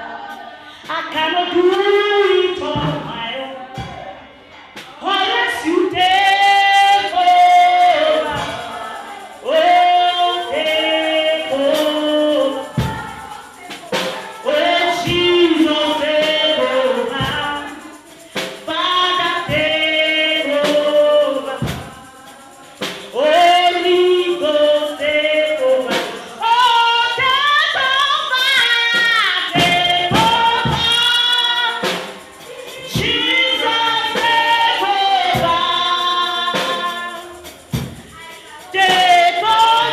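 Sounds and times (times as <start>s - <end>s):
voices singing gospel: 0.0s - 39.9s
sharp percussive hits: 3.8s - 39.9s.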